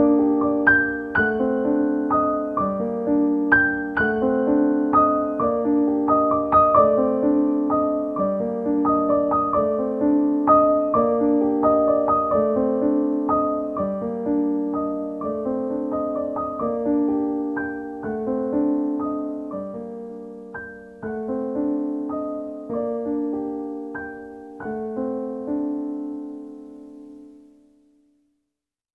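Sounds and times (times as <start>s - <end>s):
solo piano music: 0.0s - 28.4s.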